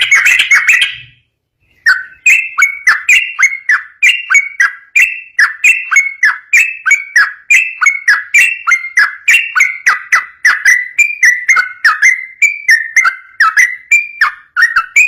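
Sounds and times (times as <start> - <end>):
bird singing bubbly whistles: 0.0 - 15.0.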